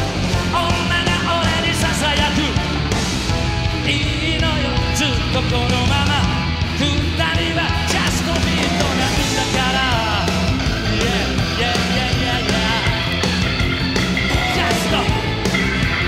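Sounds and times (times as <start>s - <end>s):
bass: 0.0s - 16.0s
drums: 0.0s - 16.0s
electric guitar bending notes: 0.0s - 16.0s.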